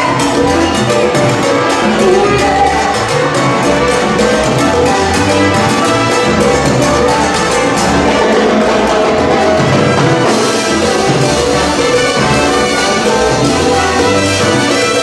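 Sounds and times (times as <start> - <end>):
salsa band playing: 0.0 - 15.0
timbales and conga percussion: 0.0 - 15.0
trumpets and trombones: 0.0 - 15.0.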